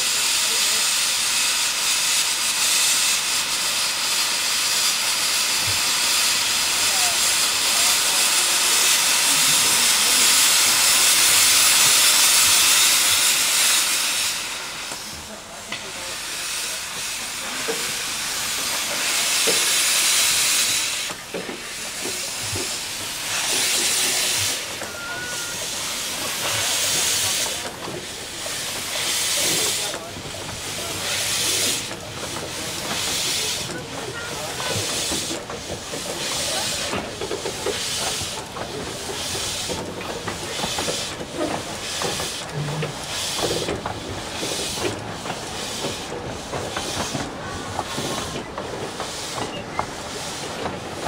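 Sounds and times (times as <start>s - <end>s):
steam hissing from locomotive: 0.0s - 51.0s.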